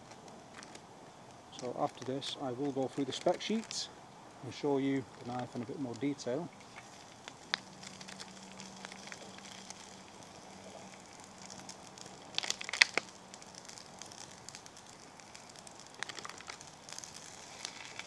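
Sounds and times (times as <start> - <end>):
twig fire crackling and popping: 0.0 - 18.0.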